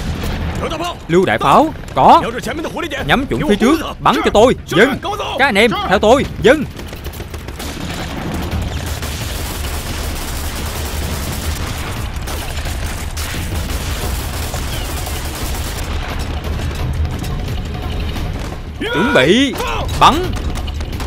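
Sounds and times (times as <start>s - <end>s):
rapid gunfire: 0.0s - 21.0s.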